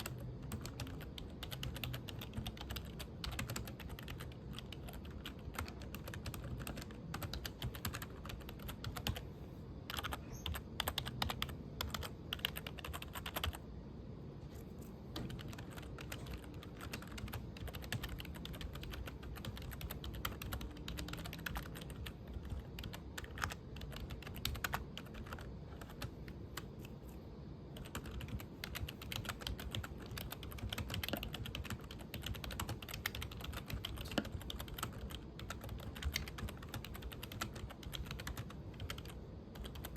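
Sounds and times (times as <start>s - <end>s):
computer keyboard typing: 0.0s - 13.6s, 15.1s - 26.9s, 27.7s - 39.9s.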